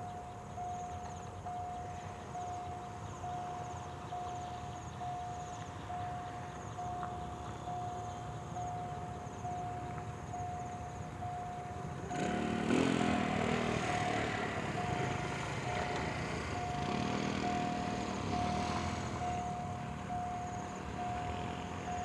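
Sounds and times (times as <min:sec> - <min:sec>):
level crossing warning tone: 0:00.0 - 0:22.0
diesel train engine passing: 0:01.1 - 0:22.0.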